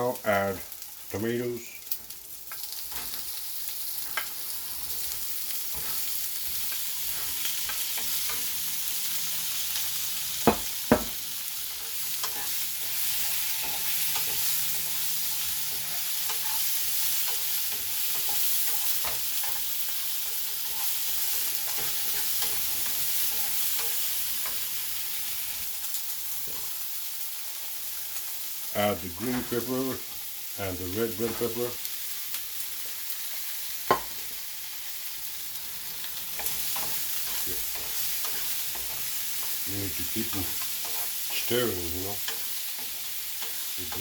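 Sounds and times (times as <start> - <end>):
chicken sizzling in a pan: 0.0 - 44.0.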